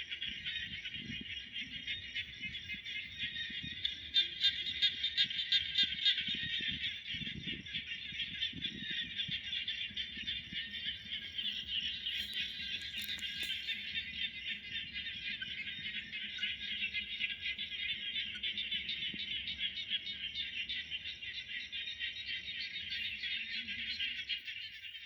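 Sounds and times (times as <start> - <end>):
insects calling: 0.0 - 25.0.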